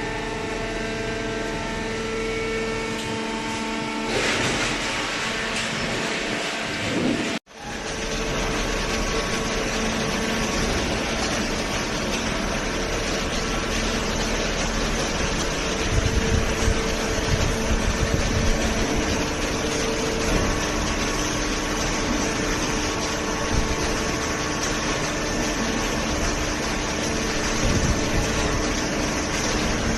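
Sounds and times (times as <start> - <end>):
baler pump and motor hum: 0.0 - 29.9.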